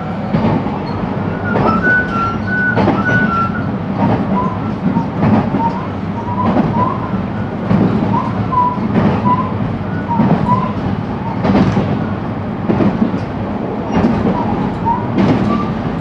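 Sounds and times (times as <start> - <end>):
train low rumble: 0.0 - 16.0
rail-joint clicks: 0.2 - 16.0.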